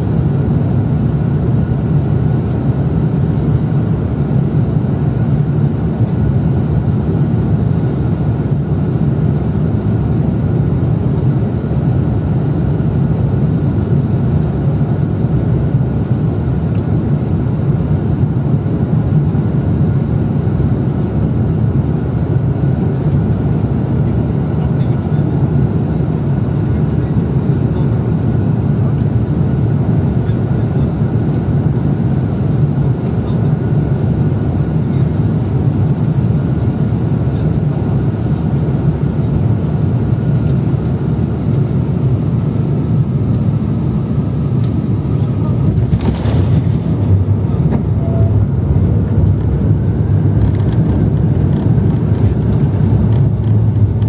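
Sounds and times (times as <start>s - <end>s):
airplane cabin rumble: 0.0s - 54.0s
faint steady whine: 0.0s - 54.0s.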